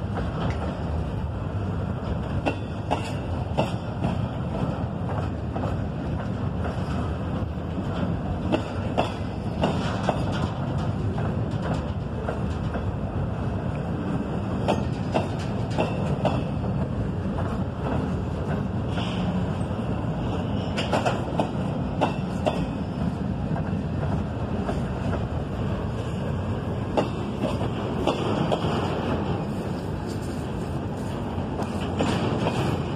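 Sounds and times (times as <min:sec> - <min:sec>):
rumble of train wheels on rail: 0:00.0 - 0:32.9
wheels clicking over rail joints: 0:01.8 - 0:30.5, 0:31.2 - 0:32.9.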